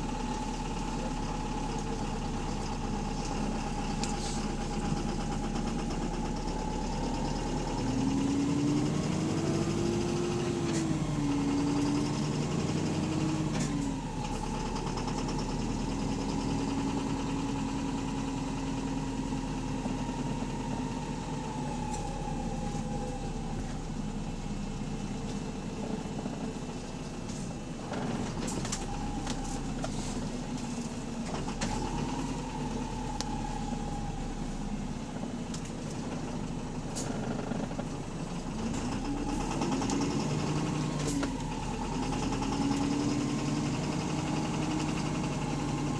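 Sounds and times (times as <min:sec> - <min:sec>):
bus engine with rod knock: 0:00.0 - 0:34.3, 0:35.0 - 0:45.9
drivetrain whine: 0:00.0 - 0:45.9.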